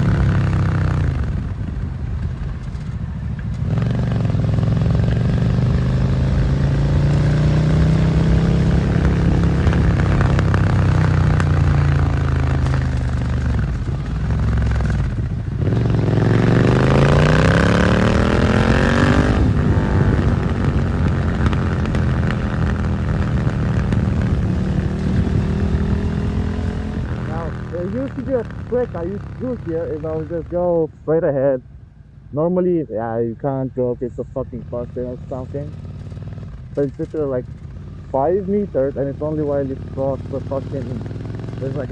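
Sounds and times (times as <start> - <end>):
motorcycle engine revving: 0.0 - 30.9, 34.1 - 41.9.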